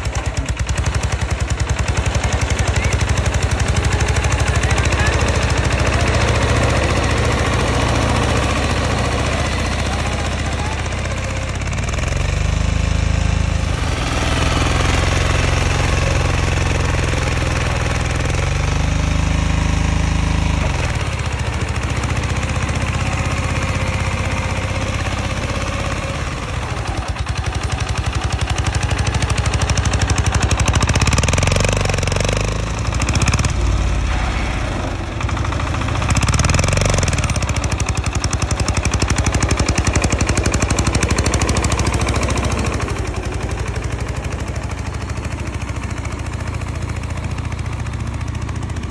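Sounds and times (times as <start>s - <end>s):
tractor engine chugging: 0.0s - 48.9s.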